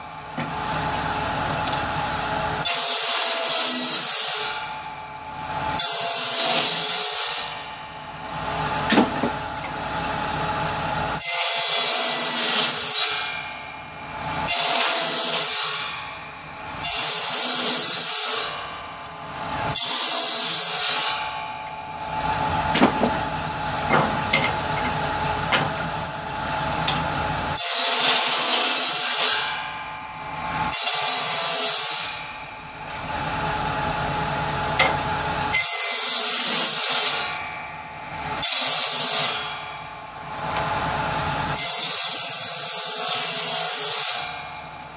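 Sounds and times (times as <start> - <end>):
power saw cutting wood: 0.0 - 44.9.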